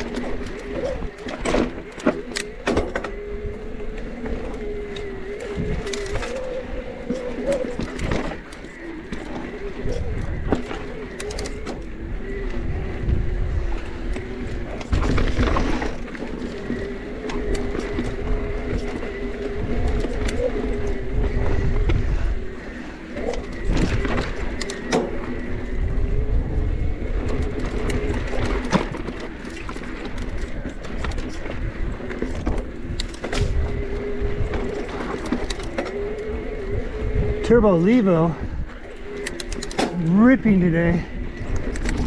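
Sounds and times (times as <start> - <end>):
bike knocking and rattling: 0.0 - 42.0
electric bike motor whining: 0.0 - 42.0
rumble of wind and tyres: 0.0 - 42.0.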